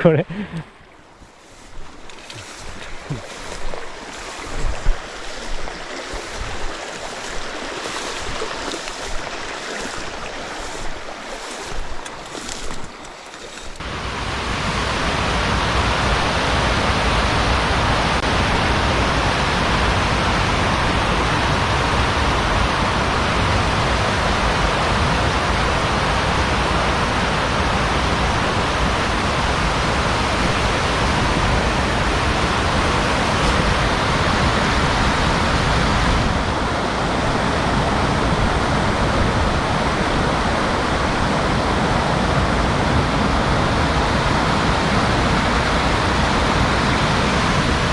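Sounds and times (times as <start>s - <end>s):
fast-flowing water rushing: 0.0s - 47.9s.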